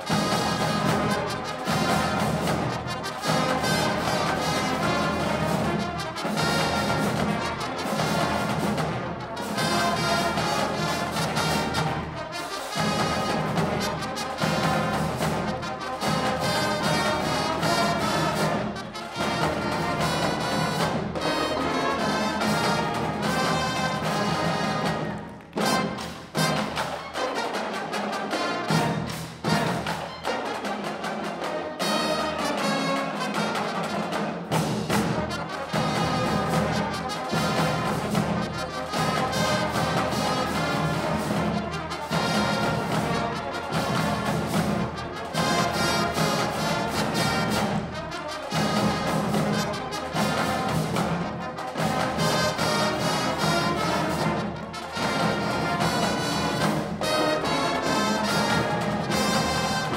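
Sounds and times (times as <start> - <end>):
brass-led orchestral music: 0.0 - 59.9.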